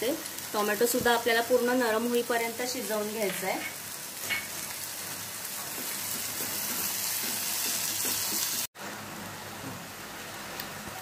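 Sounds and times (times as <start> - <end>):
onion and tomato sizzling in oil: 0.0 - 11.0.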